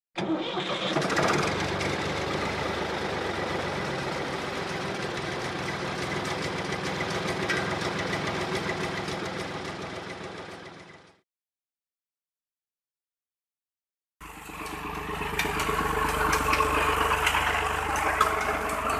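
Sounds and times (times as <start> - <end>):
engine idling: 0.3 - 11.2, 14.2 - 18.9.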